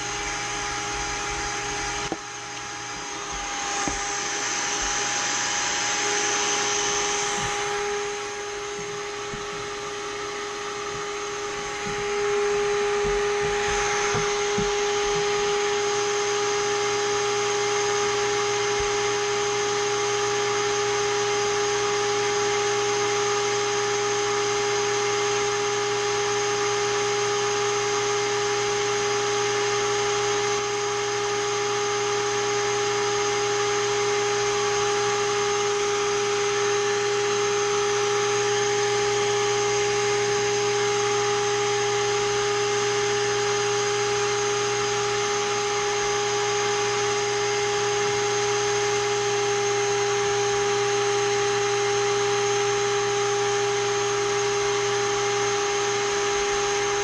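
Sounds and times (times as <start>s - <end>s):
blower motor whining with air rush: 0.0s - 57.0s.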